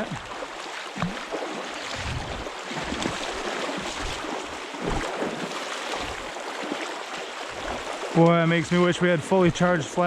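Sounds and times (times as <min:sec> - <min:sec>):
flowing creek water: 0:00.0 - 0:10.0.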